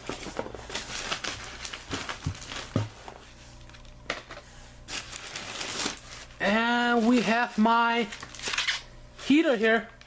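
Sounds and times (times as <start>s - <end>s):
plastic packaging crinkling: 0.0s - 3.9s, 4.9s - 9.4s.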